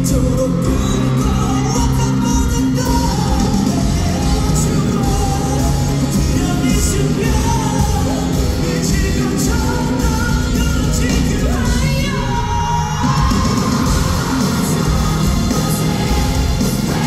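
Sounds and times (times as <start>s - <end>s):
men singing into microphones: 0.0s - 17.0s
pop backing track heavy beat: 0.0s - 17.0s.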